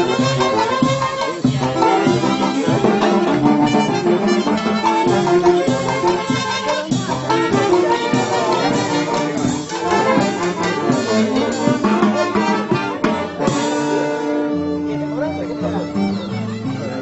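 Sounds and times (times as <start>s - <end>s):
steady drum beat: 0.0s - 16.8s
brass band music: 0.0s - 17.0s.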